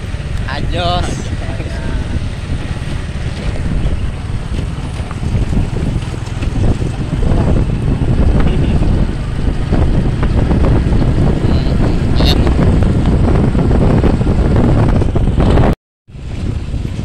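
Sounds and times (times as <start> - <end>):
motorbike engine: 0.0 - 17.0
wind buffeting microphone: 0.0 - 17.0.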